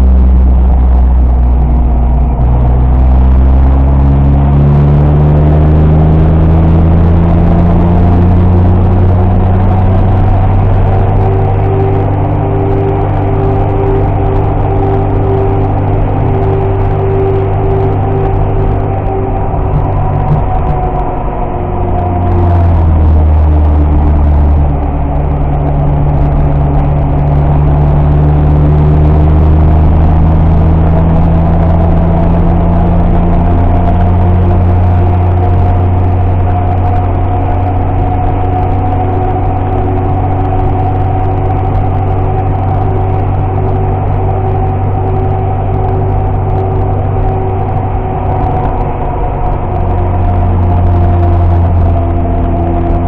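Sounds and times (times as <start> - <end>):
car engine under load: 0.0 - 53.0
road noise: 0.0 - 53.0.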